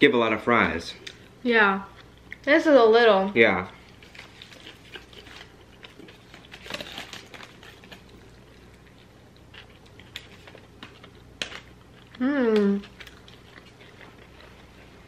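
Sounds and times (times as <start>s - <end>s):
person chewing food: 1.0s - 2.5s, 3.8s - 15.0s.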